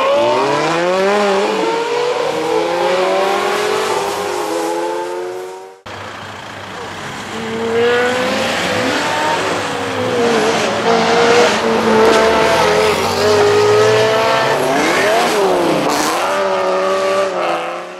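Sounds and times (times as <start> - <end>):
car engines revving: 0.0 - 17.9.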